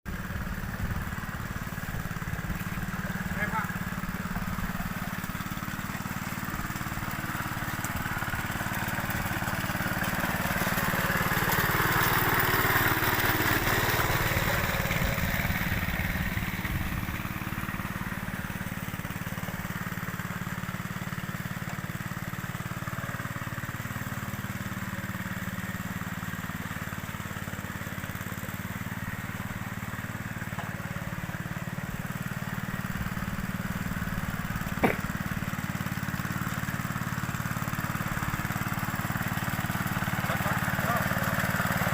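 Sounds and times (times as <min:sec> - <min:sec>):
tractor engine running: 0:00.1 - 0:41.9.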